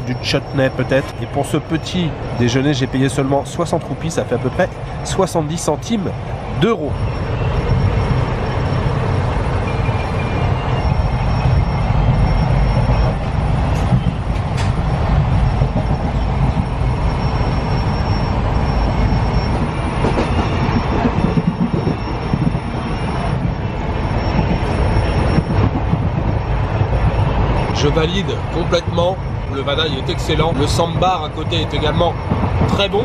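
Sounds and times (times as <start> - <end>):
train coach rumbling in motion: 0.0 - 33.0.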